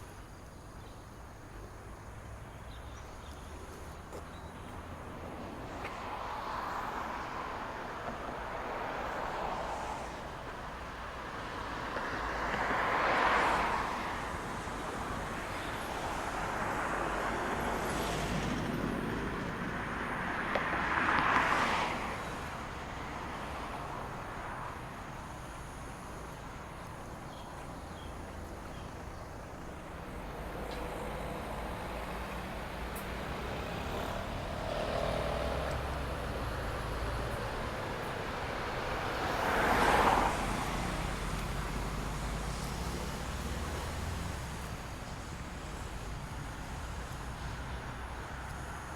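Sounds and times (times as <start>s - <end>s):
cars passing: 1.6s - 48.9s.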